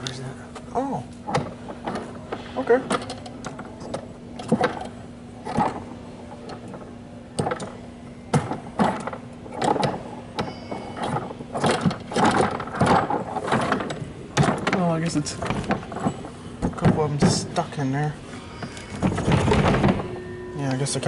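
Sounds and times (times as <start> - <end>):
steady low hum: 0.0 - 21.0
mechanism rattling and knocking: 1.2 - 20.3
balls clattering through mechanism: 1.2 - 21.0.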